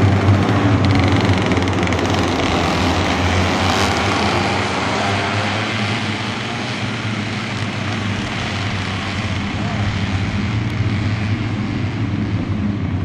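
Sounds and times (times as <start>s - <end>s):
kart engines at high revs: 0.0s - 13.0s.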